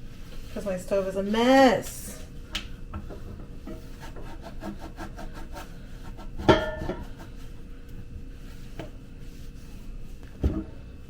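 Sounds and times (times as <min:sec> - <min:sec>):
hand rubbing a stovetop: 0:00.0 - 0:11.0.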